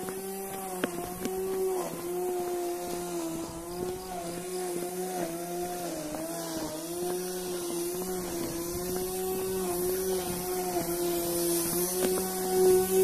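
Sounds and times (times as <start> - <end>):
small motor running: 0.0 - 13.0.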